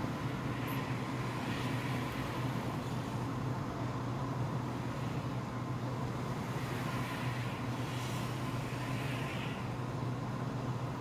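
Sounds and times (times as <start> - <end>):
vehicle passing rush: 0.0 - 10.1
car engine hum and road noise: 0.0 - 11.0.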